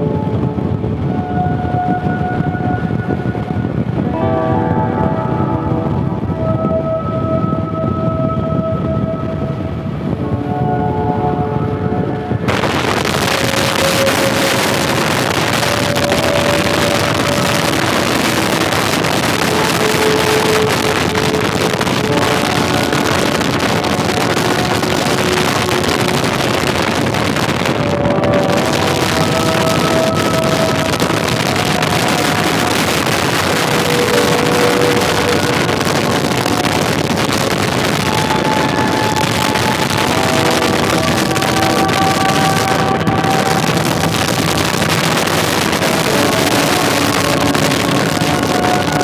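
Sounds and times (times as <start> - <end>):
motorcycle engine drone: 0.0 - 49.0
wind noise on microphone: 0.0 - 49.0.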